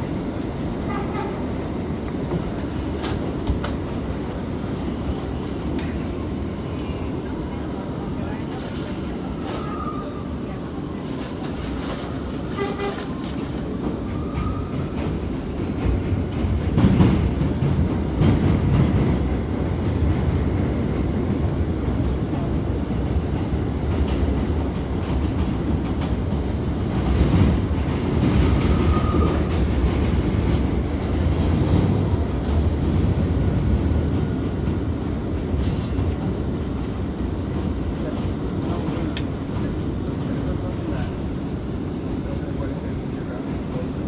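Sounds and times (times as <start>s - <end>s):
subway wheels rumbling on track: 0.0s - 44.0s.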